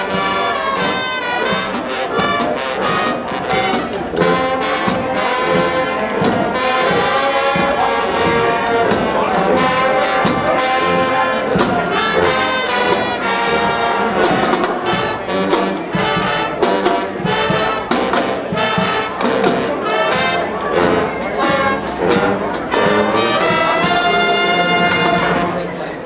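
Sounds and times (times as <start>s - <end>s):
marching band brass playing: 0.0s - 26.0s.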